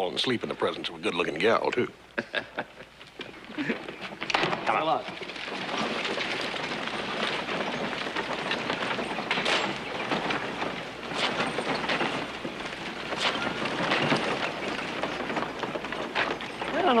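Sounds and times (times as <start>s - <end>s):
hoofbeats and rolling wheels: 2.8s - 17.0s.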